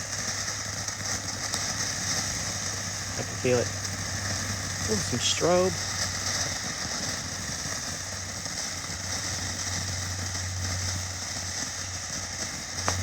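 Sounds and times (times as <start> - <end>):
ground firework hissing: 0.0 - 13.0.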